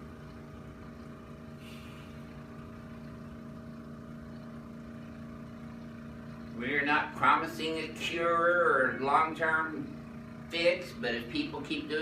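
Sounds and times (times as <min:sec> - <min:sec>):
low mechanical hum of machinery: 0:00.0 - 0:12.0.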